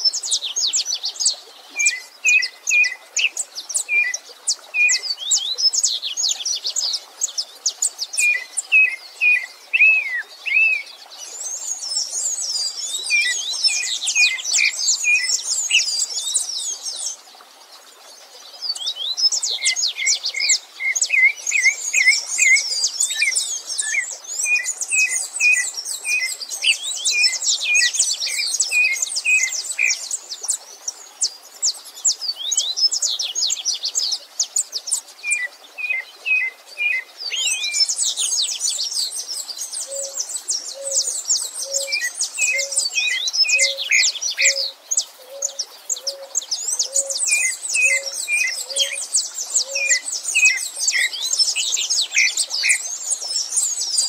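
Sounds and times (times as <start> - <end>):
birds chirping and trilling: 0.0 - 17.2, 18.1 - 33.3, 33.9 - 54.0.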